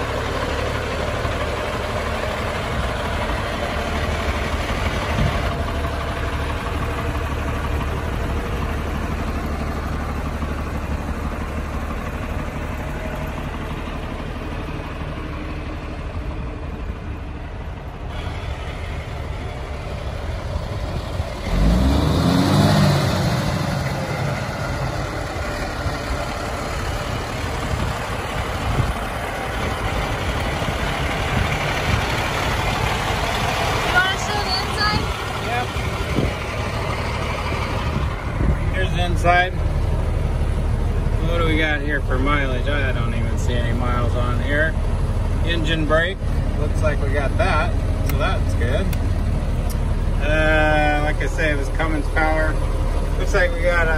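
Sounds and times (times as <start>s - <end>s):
diesel engine idling and revving: 0.0s - 53.9s.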